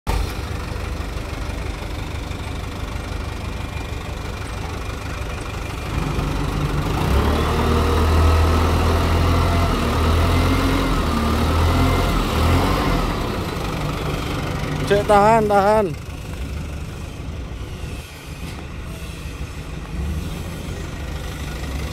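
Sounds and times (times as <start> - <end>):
diesel truck engine idling: 0.1 - 21.9.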